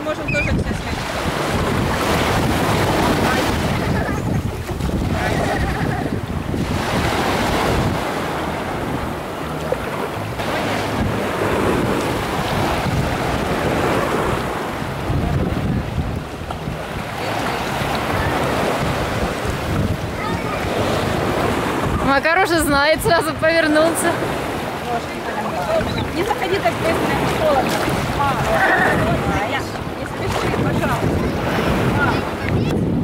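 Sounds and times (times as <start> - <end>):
small waves washing ashore: 0.0 - 33.0
wind buffeting microphone: 0.0 - 33.0.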